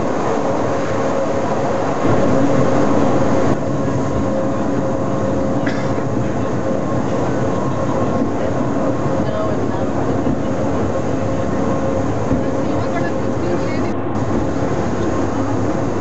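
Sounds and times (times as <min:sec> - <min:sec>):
cogwheel railcar running rumble: 0:00.0 - 0:16.0
constant mechanical whine: 0:00.0 - 0:16.0.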